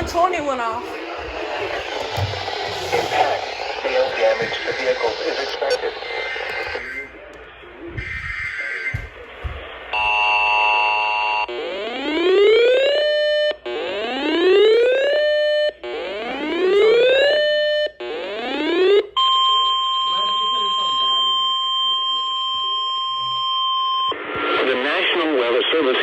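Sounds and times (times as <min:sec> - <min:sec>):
weather alert alarm beeping and whooping: 0:00.0 - 0:07.1, 0:09.9 - 0:24.2.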